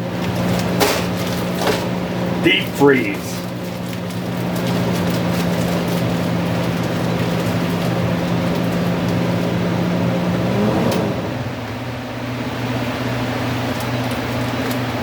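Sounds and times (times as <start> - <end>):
kitchen appliance motor humming: 0.0 - 15.0.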